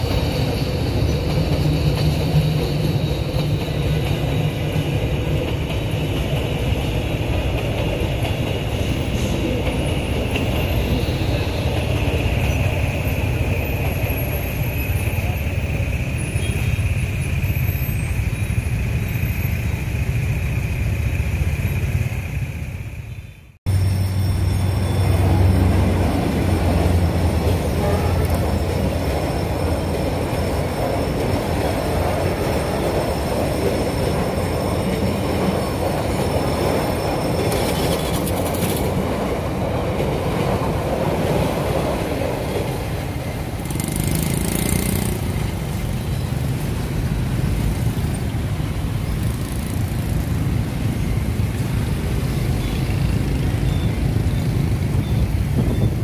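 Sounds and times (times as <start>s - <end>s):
high train squeal: 0.0s - 56.0s
motorbike traffic: 0.0s - 56.0s
train wheels rumbling: 0.0s - 56.0s.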